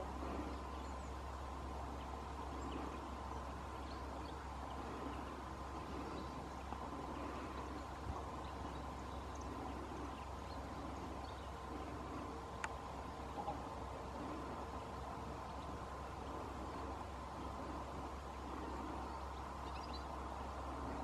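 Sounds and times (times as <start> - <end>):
distant birds chirping: 0.0 - 21.0
steady hiss and low hum: 0.0 - 21.0.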